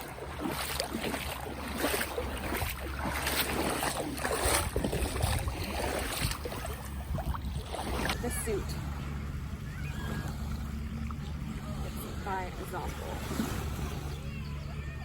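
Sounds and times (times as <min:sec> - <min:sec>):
sea water sloshing and splashing: 0:00.0 - 0:15.0
wind buffeting microphone: 0:00.0 - 0:15.0.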